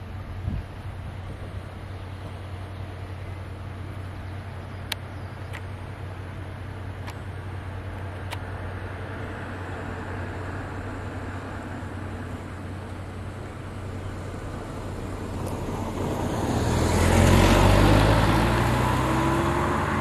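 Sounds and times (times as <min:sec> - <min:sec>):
distant diesel locomotive hum: 0:00.0 - 0:20.0
outdoor noise: 0:00.0 - 0:20.0.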